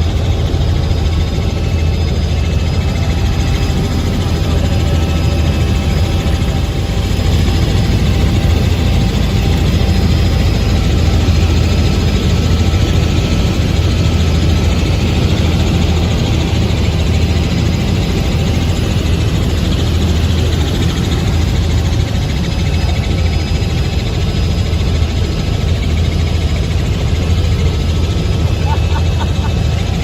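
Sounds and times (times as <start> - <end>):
helicopter rotor and engine drone: 0.0 - 30.0.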